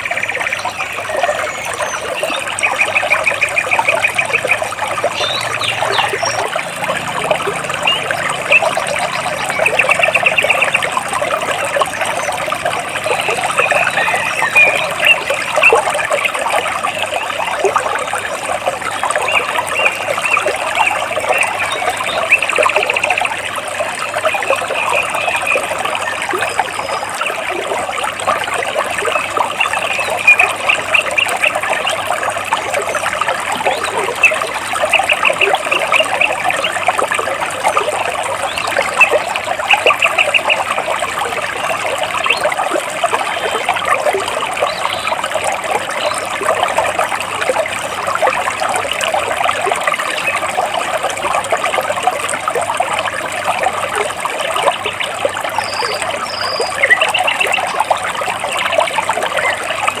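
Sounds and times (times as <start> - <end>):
stream trickling over rocks: 0.0 - 60.0.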